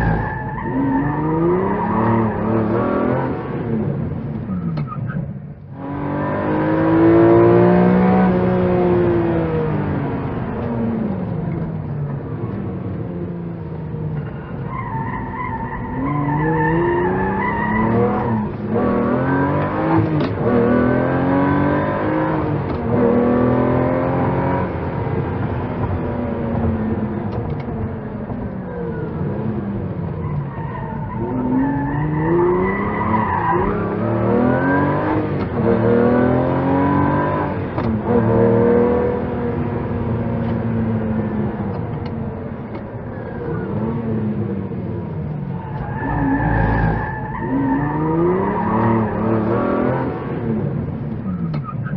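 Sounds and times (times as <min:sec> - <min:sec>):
car engine accelerating hard: 0:00.0 - 0:51.9.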